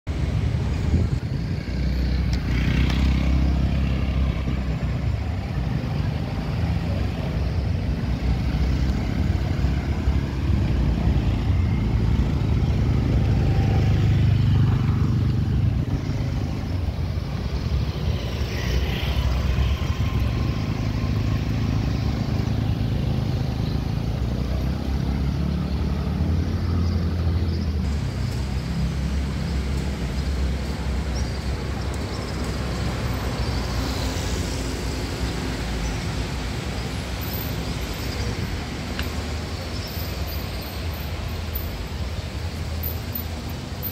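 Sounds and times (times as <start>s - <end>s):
street traffic rumble: 0.0s - 43.9s.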